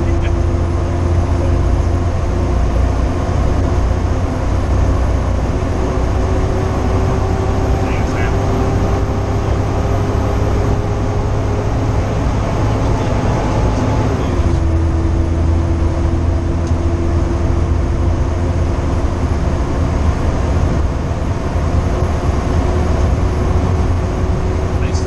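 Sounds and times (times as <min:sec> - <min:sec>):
low engine rumble: 0:00.0 - 0:25.0
road noise: 0:00.0 - 0:25.0
steady whine: 0:00.0 - 0:25.0.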